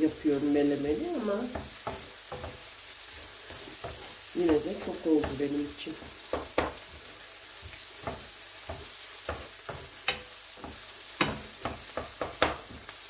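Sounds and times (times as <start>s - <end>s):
vegetables sizzling in oil: 0.0s - 13.0s
wooden spoon scraping a pan: 0.3s - 13.0s.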